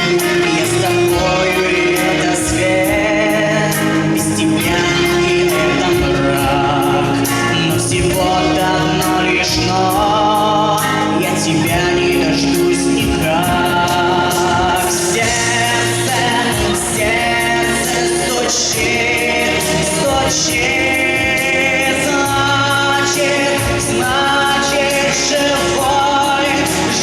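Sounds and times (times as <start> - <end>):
musical accompaniment with steady beat: 0.0 - 27.0
young man singing pop song: 0.0 - 27.0.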